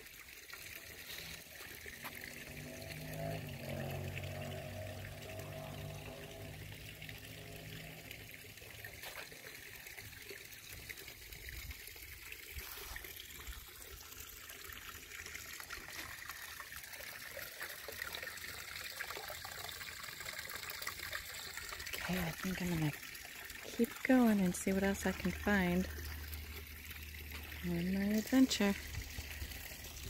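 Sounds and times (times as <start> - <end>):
creek trickling over rocks: 0.0 - 30.0.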